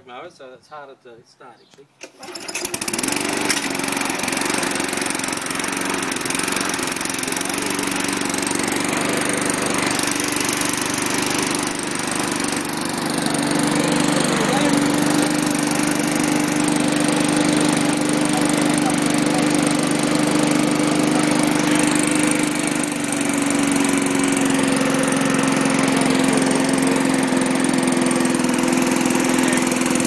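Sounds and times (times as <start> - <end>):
lawn mower engine running: 2.0 - 30.0.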